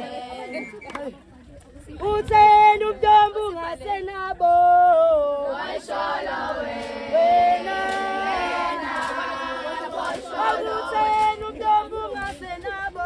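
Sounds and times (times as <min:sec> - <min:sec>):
women singing unaccompanied: 0:00.0 - 0:13.0.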